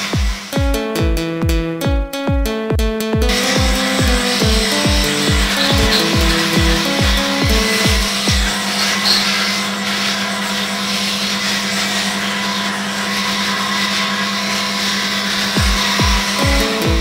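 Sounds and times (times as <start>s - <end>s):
electric shaver buzzing: 0.0s - 17.0s.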